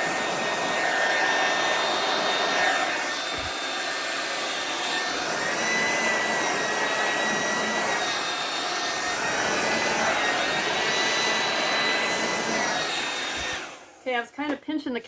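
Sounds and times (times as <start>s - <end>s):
hair dryer running: 0.0s - 14.2s.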